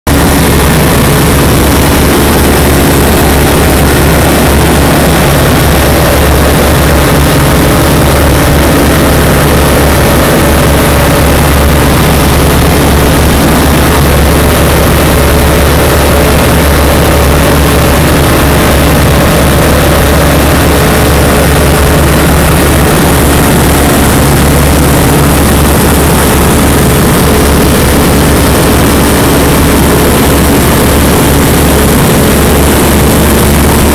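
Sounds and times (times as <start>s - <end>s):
light aircraft engine drone: 0.1s - 33.9s.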